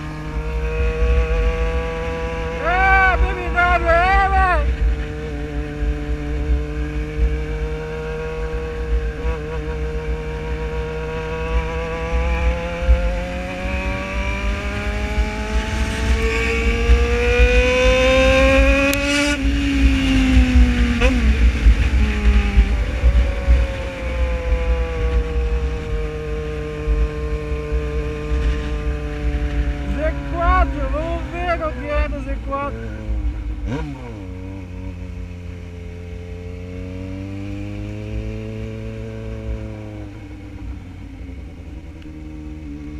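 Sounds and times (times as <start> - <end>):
motorcycle engine running: 0.0 - 42.9
wind rumbling on microphone: 3.2 - 42.9.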